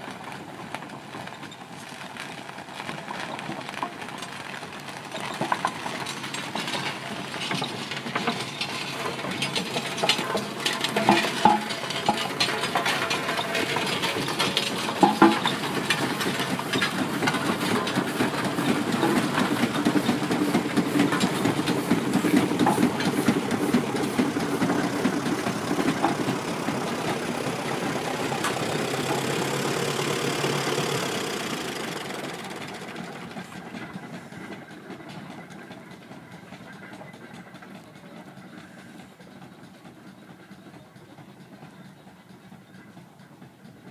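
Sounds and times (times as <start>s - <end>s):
steam engine running: 0.0s - 43.9s
rapid knocking and clanking: 3.3s - 43.9s.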